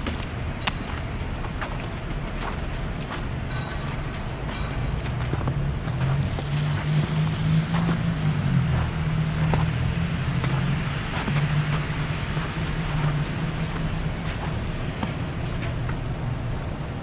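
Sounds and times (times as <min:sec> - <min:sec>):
footsteps on snow and slush: 0:00.0 - 0:17.0.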